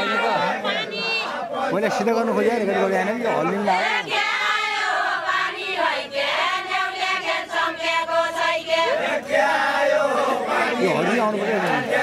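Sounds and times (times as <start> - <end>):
women singing together: 0.0 - 1.8, 3.4 - 12.0.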